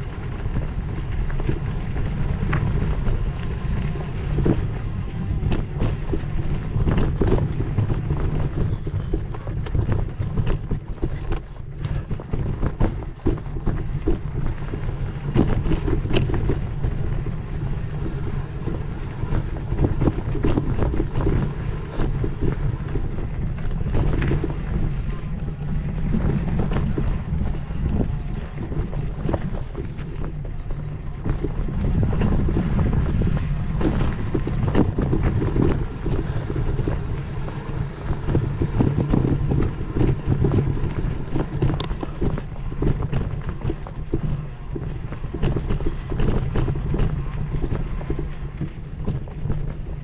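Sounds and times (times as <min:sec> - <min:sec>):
low rumble: 0:00.0 - 0:50.0
wind buffeting microphone: 0:00.0 - 0:50.0.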